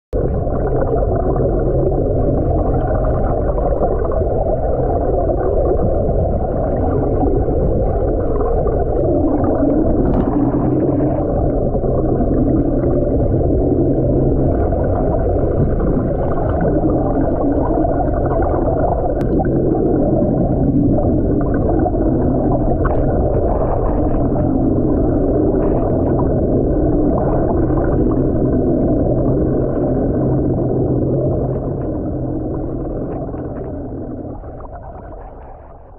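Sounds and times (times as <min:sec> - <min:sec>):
low engine drone: 0:00.1 - 0:35.9
underwater rush of water: 0:00.2 - 0:35.9.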